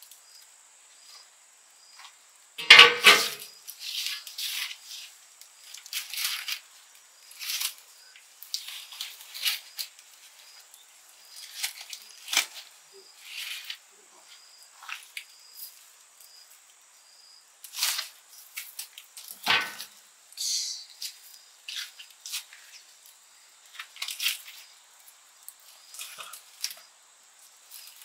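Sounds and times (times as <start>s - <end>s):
firewood crackling and rustling: 0.0s - 28.0s.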